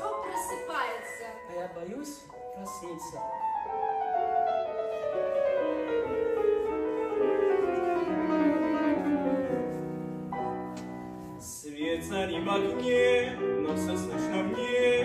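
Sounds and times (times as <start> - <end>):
descending piano passage: 0.0 - 15.0.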